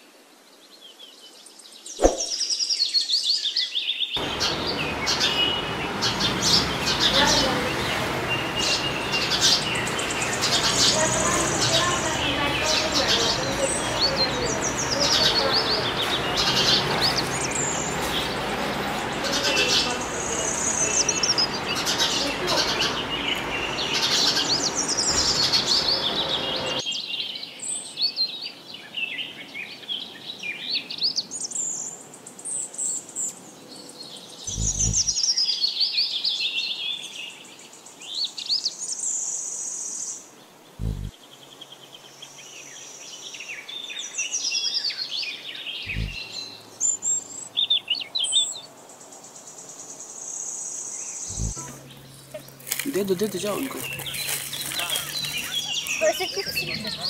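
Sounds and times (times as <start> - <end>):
small songbird singing: 0.5 - 57.0.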